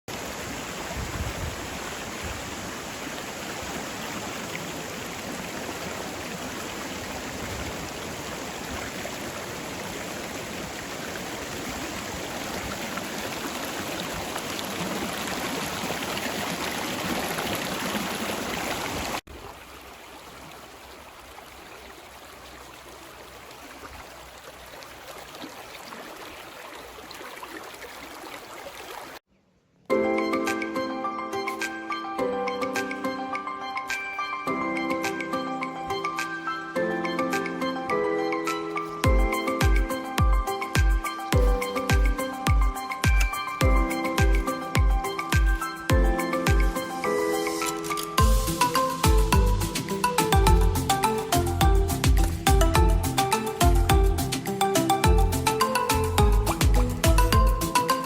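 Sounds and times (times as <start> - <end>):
creek water flowing: 0.1 - 29.3, 30.4 - 58.0.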